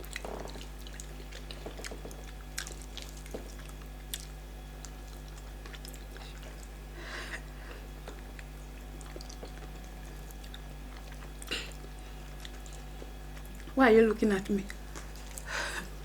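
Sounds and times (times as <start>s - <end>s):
wet chewing and mouth clicks: 0.0s - 6.8s, 8.0s - 13.8s, 14.6s - 15.5s
low electrical hum: 0.0s - 16.0s.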